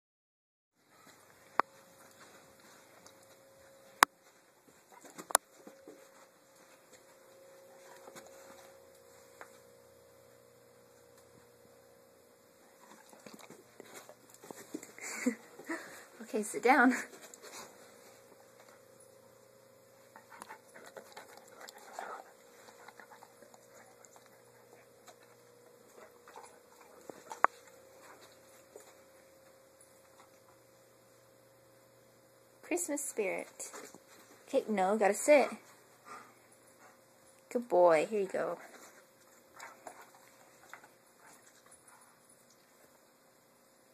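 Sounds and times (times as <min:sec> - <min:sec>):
faint steady hum: 0:00.8 - 0:43.9.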